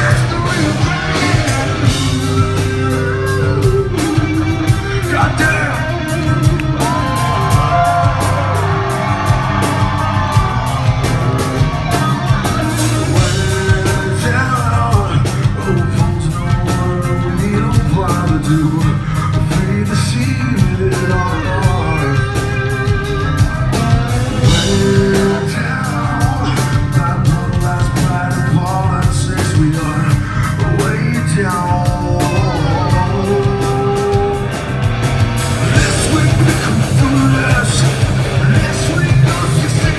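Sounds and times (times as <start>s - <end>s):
bass guitar: 0.0s - 39.9s
drum and cymbal hits: 0.0s - 39.9s
electric guitar: 0.0s - 39.9s
person singing: 0.0s - 39.9s.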